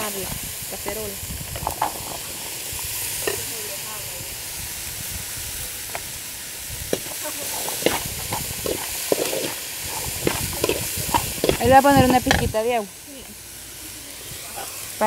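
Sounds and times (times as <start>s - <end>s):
sauce sizzling in a skillet: 0.0s - 15.0s.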